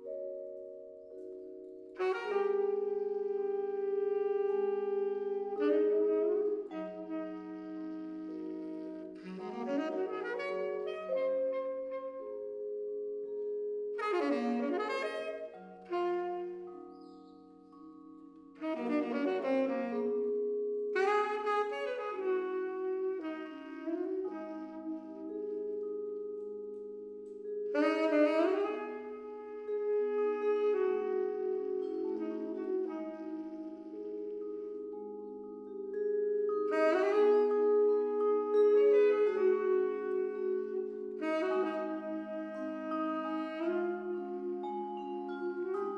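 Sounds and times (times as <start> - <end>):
saxophone held notes: 0.0 - 45.9
vibraphone chords: 0.0 - 45.9.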